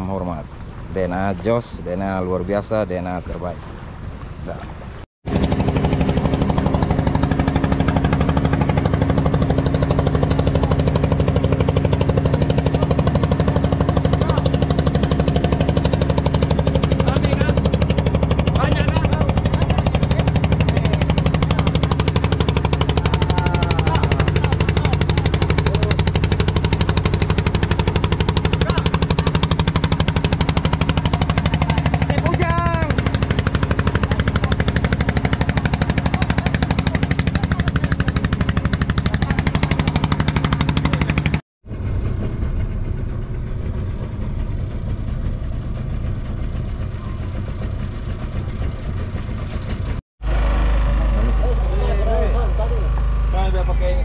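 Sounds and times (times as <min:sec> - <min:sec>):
boat engine chugging: 0:00.0 - 0:54.0
steady low rumble: 0:00.0 - 0:54.0.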